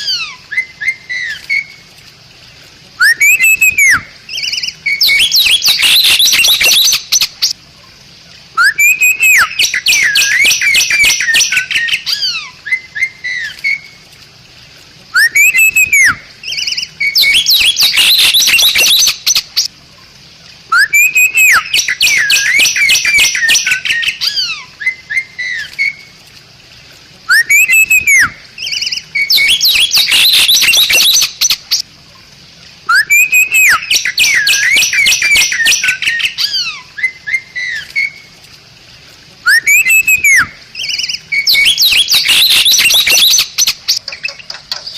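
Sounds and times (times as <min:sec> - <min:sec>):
bird whistling and chattering: 0:00.0 - 0:01.7, 0:03.0 - 0:07.6, 0:08.6 - 0:13.9, 0:15.2 - 0:19.7, 0:20.7 - 0:26.0, 0:27.3 - 0:31.8, 0:32.9 - 0:38.2, 0:39.4 - 0:44.9.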